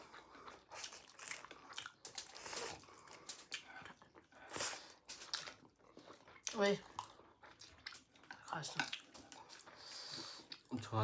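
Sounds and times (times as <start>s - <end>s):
chewing with wet mouth clicks: 0.0s - 11.0s.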